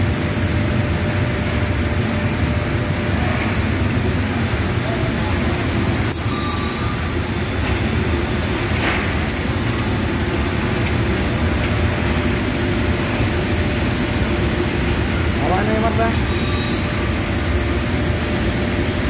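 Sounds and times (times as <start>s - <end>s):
low drone of plant machinery: 0.0s - 19.0s.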